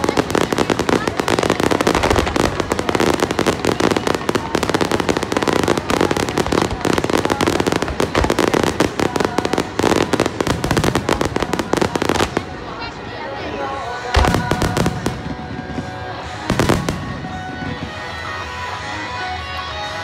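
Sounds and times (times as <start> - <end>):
fireworks bursting and crackling: 0.0 - 19.6.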